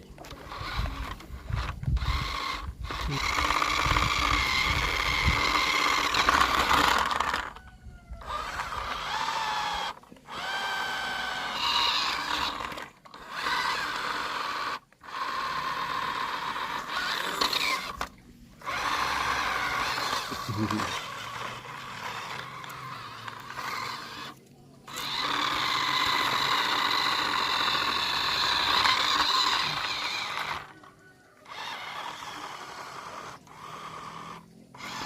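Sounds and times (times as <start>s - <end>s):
toy truck electric motor whining: 0.0s - 35.0s.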